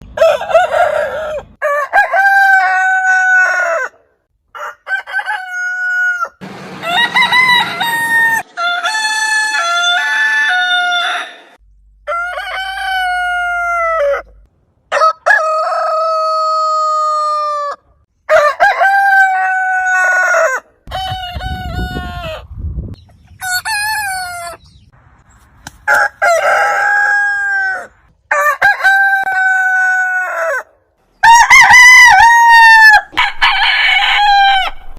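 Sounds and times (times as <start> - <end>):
roosters crowing: 0.1 - 22.5, 23.4 - 24.6, 25.8 - 34.9.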